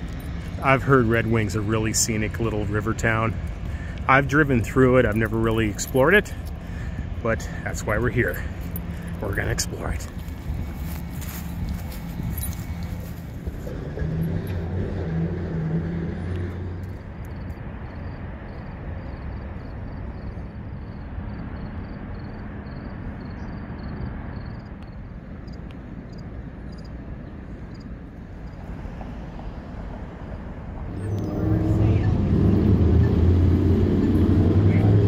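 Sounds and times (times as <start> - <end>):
passing vehicle engine hum: 0.0 - 35.0
road traffic: 0.0 - 35.0.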